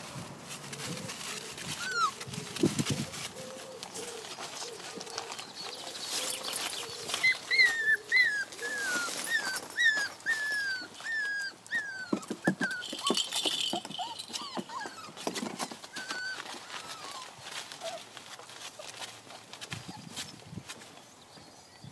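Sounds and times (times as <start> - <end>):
puppies yipping: 0.8 - 20.3
puppies whining: 0.8 - 20.4.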